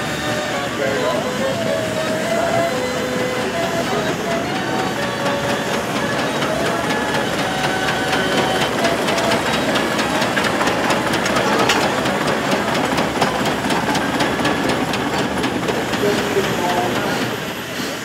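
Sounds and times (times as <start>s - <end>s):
steam engine beating and clattering: 0.0s - 18.0s.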